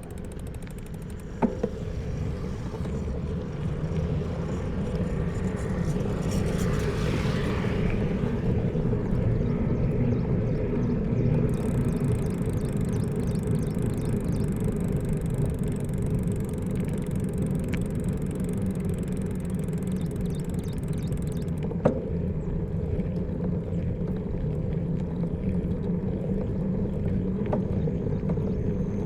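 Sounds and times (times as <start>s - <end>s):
bicycle road noise: 0.0s - 29.0s
wind buffeting microphone: 0.0s - 29.0s.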